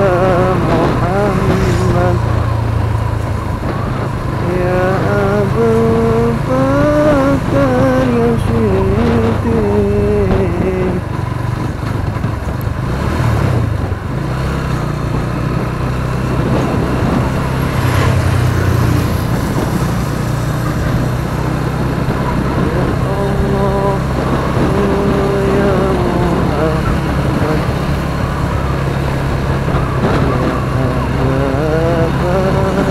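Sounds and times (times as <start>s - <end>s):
motorcycle engine running: 0.0s - 32.9s
road and wind noise: 0.0s - 32.9s.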